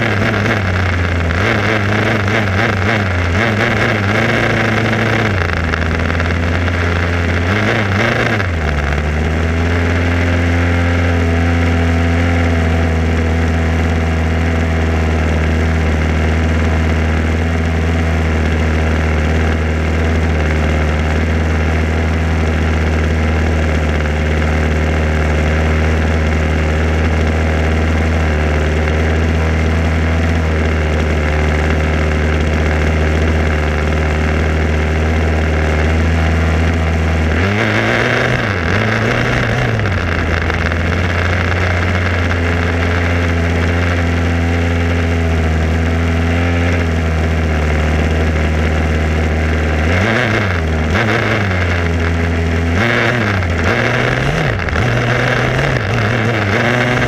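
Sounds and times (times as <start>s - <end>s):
two-stroke engine idling and revving: 0.0s - 57.0s.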